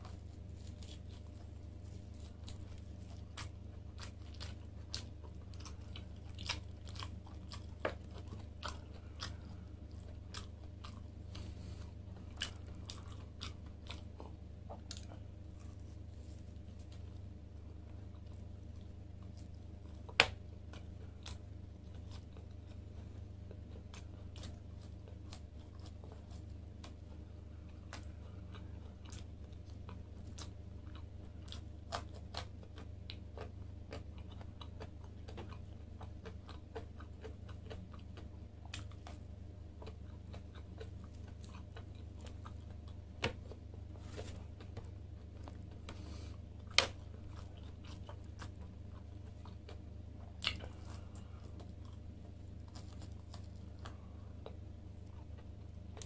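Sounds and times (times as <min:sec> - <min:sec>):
chewing and biting: 0:00.0 - 0:56.0
steady low hum: 0:00.0 - 0:56.0.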